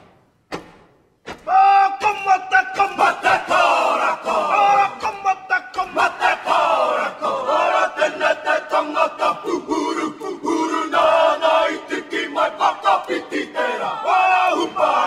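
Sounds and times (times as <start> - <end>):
sharp rhythmic beats: 0.0 - 15.0
men chanting and shouting in unison: 1.4 - 15.0.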